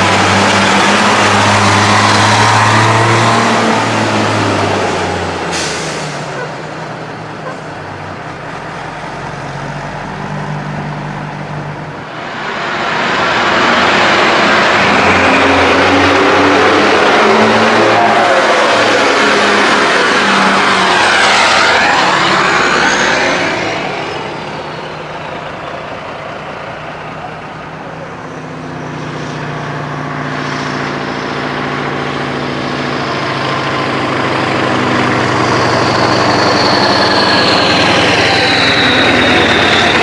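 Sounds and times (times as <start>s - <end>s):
diesel truck engines idling: 0.0s - 40.0s
truck driving past: 0.0s - 40.0s.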